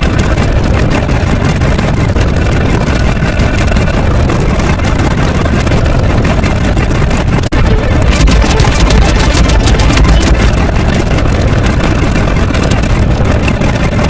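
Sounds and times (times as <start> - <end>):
loud low rumbling noise: 0.0 - 14.0.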